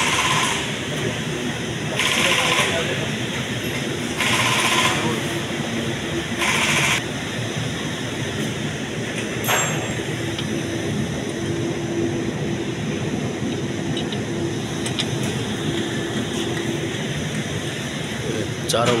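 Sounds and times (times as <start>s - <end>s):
mechanical rumble and hum: 0.0s - 19.0s.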